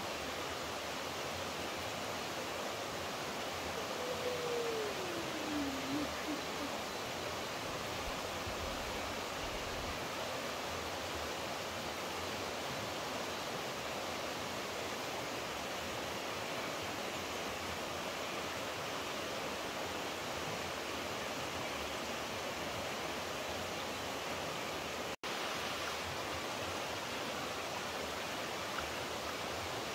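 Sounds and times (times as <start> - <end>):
flowing water rushing: 0.0 - 29.9.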